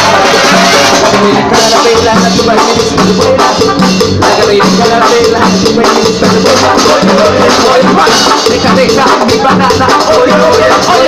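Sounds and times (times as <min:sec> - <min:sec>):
brass band playing dance music: 0:00.0 - 0:11.0
drum kit: 0:00.0 - 0:11.0
repeating bass pattern: 0:00.0 - 0:11.0.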